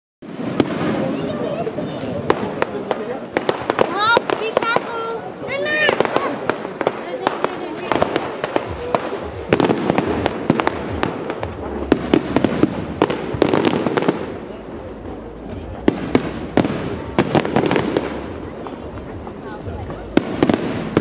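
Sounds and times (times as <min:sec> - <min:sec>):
distant fireworks bangs and crackles: 0:00.2 - 0:21.0.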